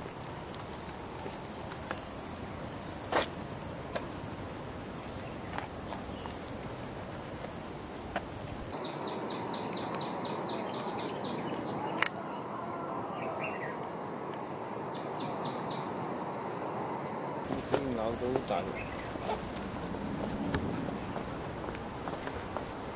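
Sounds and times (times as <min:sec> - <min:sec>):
insects chorus: 0:00.0 - 0:22.9.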